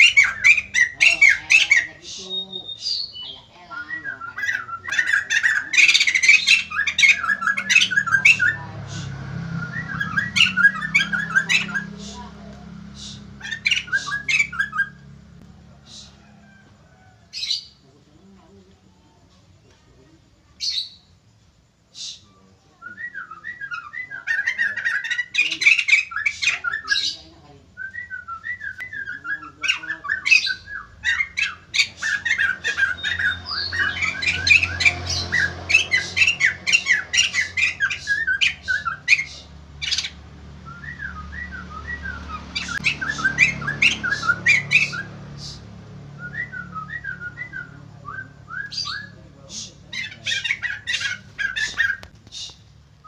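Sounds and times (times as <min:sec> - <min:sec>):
bird chattering and squawking: 0:00.0 - 0:16.6, 0:17.2 - 0:18.4, 0:20.4 - 0:21.2, 0:21.9 - 0:52.8.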